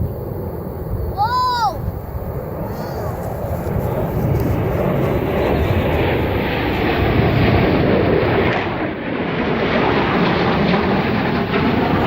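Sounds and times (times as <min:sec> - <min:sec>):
aircraft passing overhead: 0:00.0 - 0:12.0.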